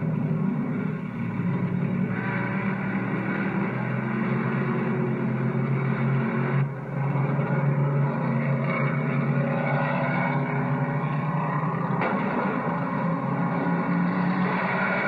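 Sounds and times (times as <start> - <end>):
stock car engines racing: 0.0 - 15.0.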